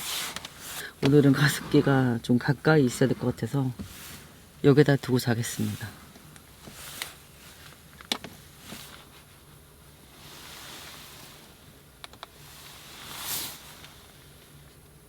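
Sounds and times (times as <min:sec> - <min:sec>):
soft rustling of bedding: 0:00.0 - 0:14.8.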